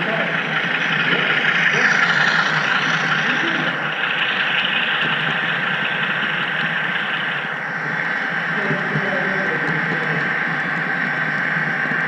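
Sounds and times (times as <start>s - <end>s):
model train wheels on rail: 0.0s - 12.0s.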